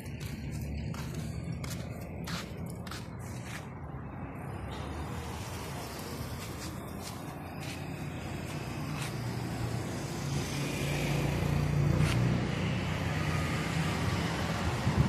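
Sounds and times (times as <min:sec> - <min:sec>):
vehicle engine running: 0:00.0 - 0:13.1.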